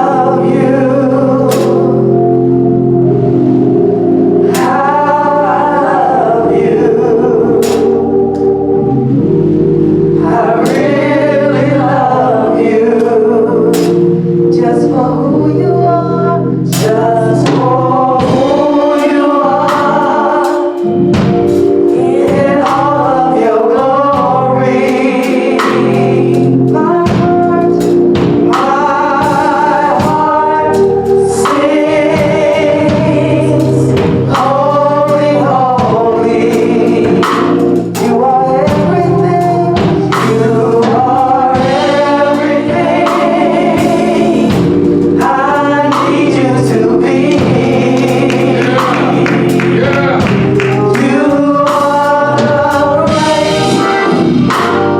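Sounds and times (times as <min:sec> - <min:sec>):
gospel choir singing: 0:00.0 - 0:54.9
held instrumental chords: 0:00.0 - 0:54.9.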